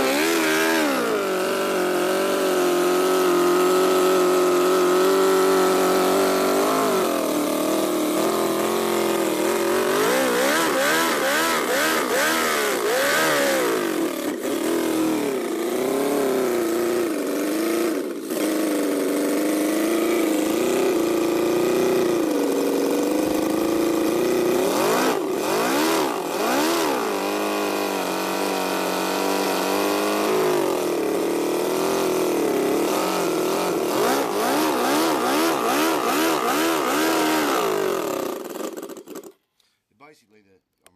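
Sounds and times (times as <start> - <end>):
model engine revving: 0.0 - 39.7.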